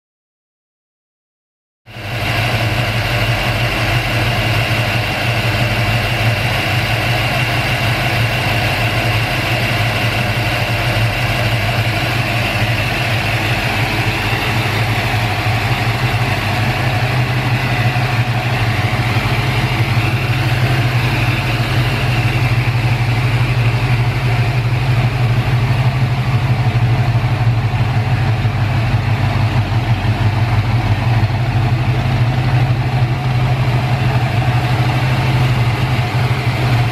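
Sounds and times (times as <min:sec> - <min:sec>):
car engine idling: 0:01.9 - 0:36.9.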